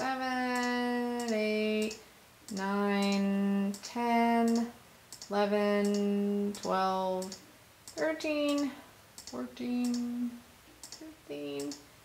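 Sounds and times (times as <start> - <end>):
computer mouse clicks: 0.0 - 10.1, 10.8 - 11.8.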